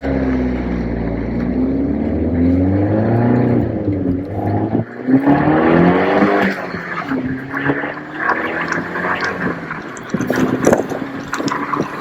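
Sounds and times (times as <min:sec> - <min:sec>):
car engine revving while driving: 0:00.0 - 0:12.0.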